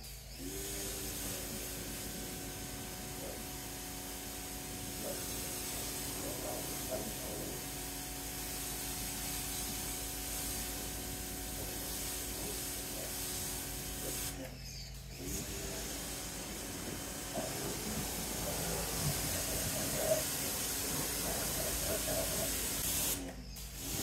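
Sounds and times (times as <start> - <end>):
motor humming: 0.0 - 24.0
pressure washer spray hissing: 0.0 - 24.0.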